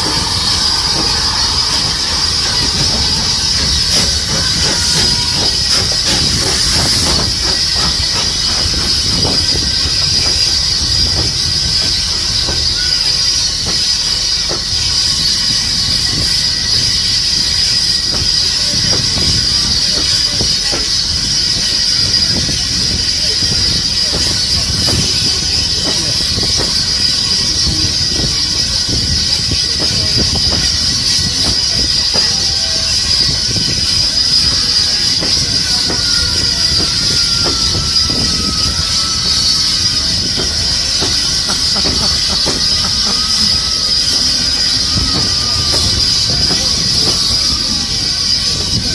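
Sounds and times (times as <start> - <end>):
train wheel knocks: 0.0 - 48.0
steady high steam hiss: 0.0 - 48.9
train coaches rumbling past: 0.0 - 48.9.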